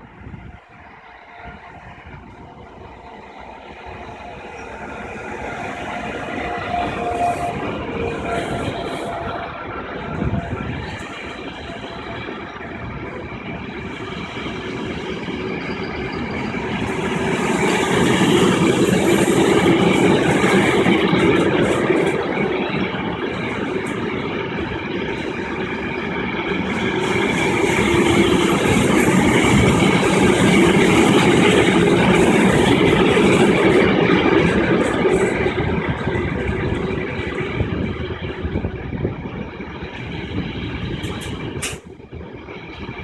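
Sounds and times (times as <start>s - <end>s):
freight train wheels rumbling on rails: 0.0s - 43.0s.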